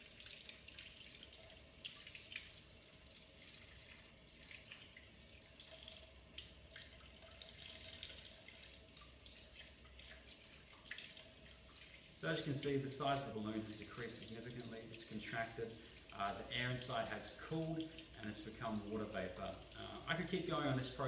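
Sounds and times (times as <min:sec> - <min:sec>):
tap water splashing into sink: 0:00.0 - 0:21.0
water drips: 0:00.0 - 0:21.0.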